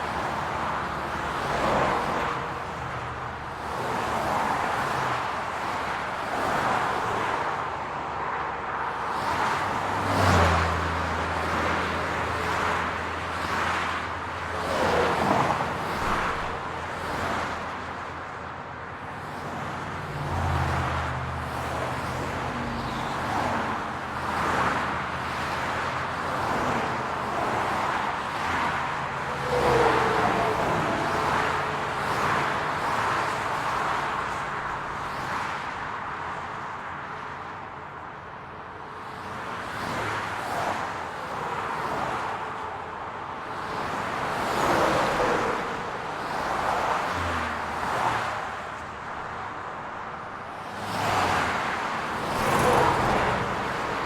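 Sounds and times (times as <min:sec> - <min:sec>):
cars passing: 0:00.0 - 0:54.0
traffic noise: 0:00.0 - 0:54.0.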